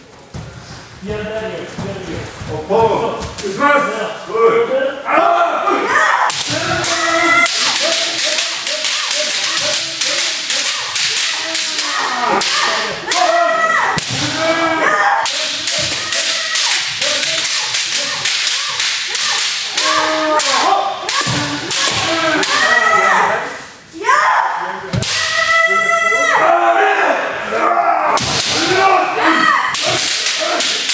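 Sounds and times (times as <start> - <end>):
people shouting: 4.4 - 30.9.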